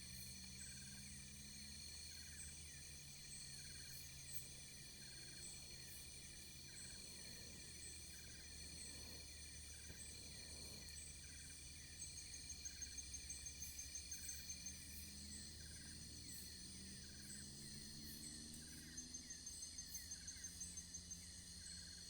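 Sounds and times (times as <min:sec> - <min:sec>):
fast pulsed insect trill: 0:00.0 - 0:22.0
insect chirping: 0:00.0 - 0:22.0
insects trilling: 0:00.0 - 0:22.0.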